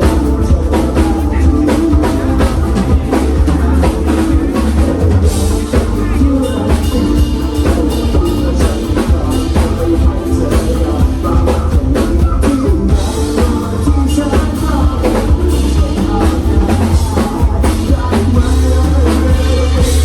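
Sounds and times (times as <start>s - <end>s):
drum kit: 0.0s - 20.0s
heavy bass: 0.0s - 20.0s
live band playing: 0.0s - 20.0s.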